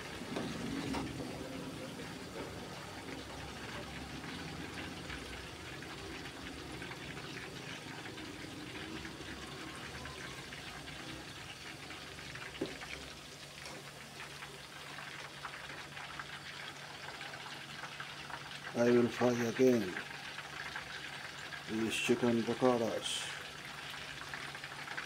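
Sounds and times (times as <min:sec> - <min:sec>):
oil sizzling and crackling: 0:00.0 - 0:25.0.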